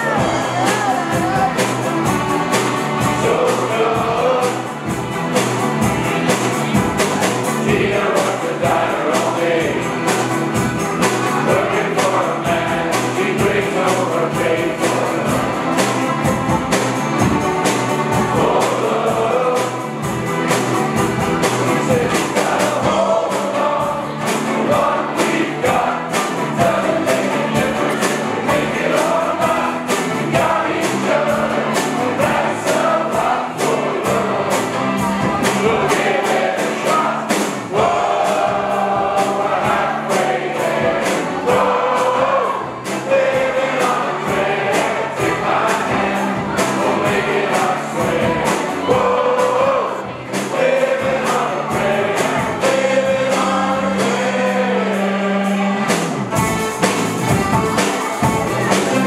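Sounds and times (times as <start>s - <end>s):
group singing in chorus: 0.0s - 56.4s
guitar: 0.0s - 59.0s
steady rhythmic beat: 0.0s - 59.0s.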